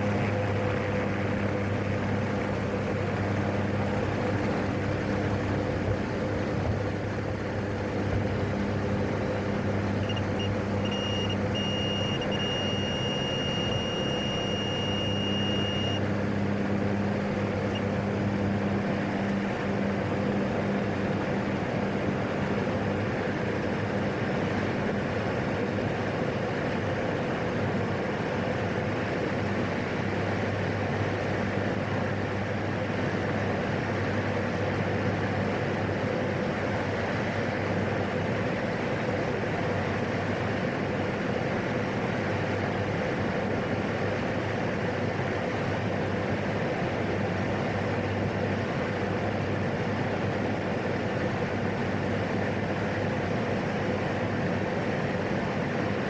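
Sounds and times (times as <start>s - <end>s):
turboprop engine droning: 0.0s - 56.0s.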